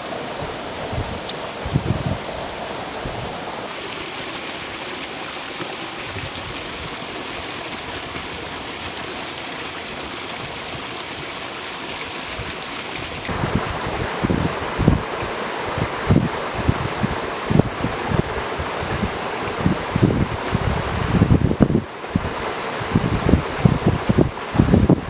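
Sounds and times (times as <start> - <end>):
stream flowing: 0.0 - 25.0.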